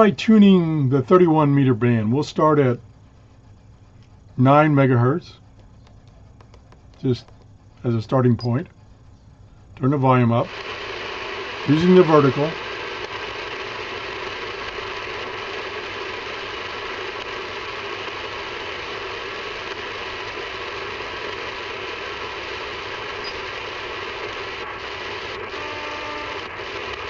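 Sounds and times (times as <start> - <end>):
faint steady radio tones: 0.0 - 27.0
shortwave radio static hiss: 0.0 - 27.0.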